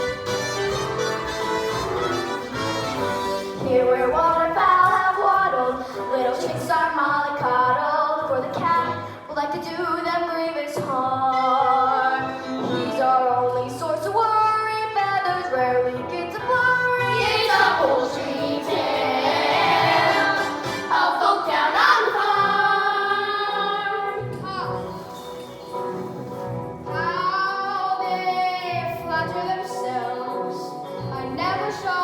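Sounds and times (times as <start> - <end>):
show tune with singing: 0.0 - 25.9, 26.8 - 32.0.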